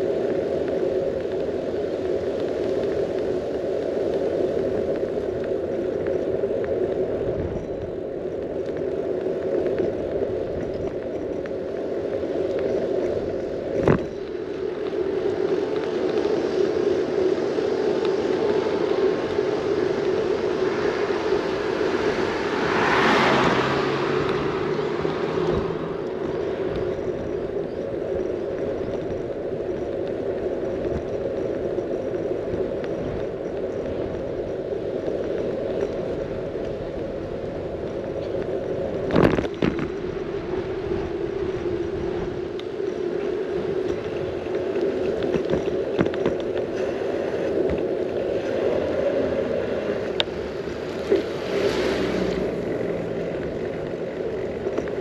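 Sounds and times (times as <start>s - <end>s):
bicycle tyres rolling on asphalt: 0.0s - 55.0s
wind noise: 0.0s - 55.0s.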